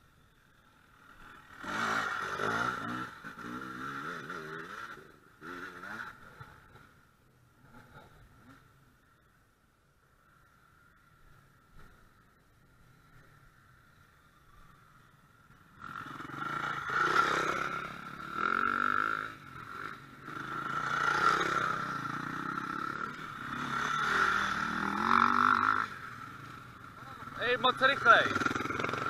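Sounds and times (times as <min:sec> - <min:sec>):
motorcycle engine revving: 0:00.2 - 0:08.7, 0:13.1 - 0:29.0.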